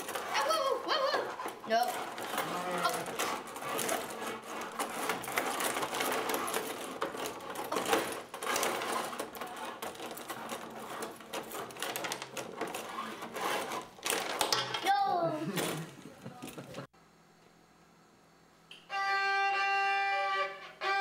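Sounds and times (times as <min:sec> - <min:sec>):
rod hockey game clatter: 0:00.0 - 0:16.9.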